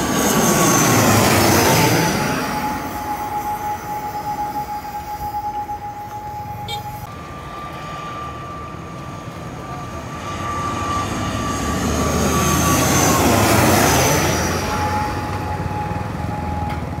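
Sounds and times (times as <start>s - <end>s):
turboprop airliner passing overhead: 0.0s - 17.0s.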